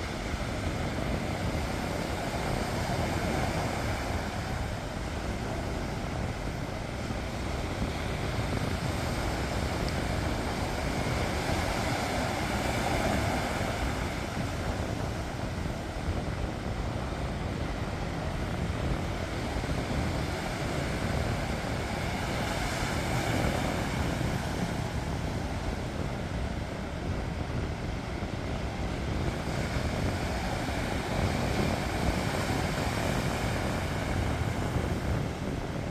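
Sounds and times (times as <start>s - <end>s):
sea waves breaking: 0.0s - 35.9s
steady rumble: 0.0s - 35.9s.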